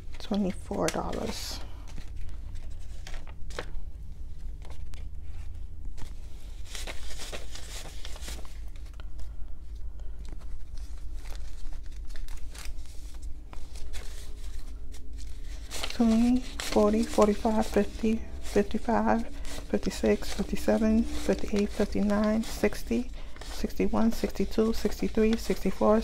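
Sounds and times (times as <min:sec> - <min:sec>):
banknotes rustling and flicking: 0:00.0 - 0:26.0
low steady hum: 0:00.0 - 0:26.0.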